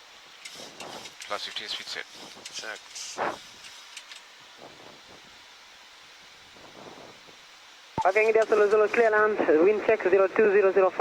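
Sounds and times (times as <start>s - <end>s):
faint hiss of ventilation: 0.0s - 11.0s.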